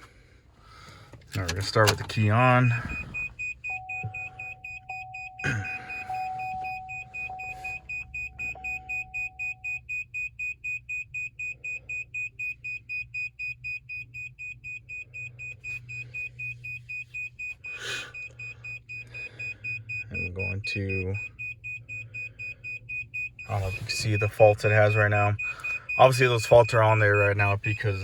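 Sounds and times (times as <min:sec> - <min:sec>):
high warning chime beeps: 0:01.4 - 0:28.0
lower steady tone: 0:01.6 - 0:28.0.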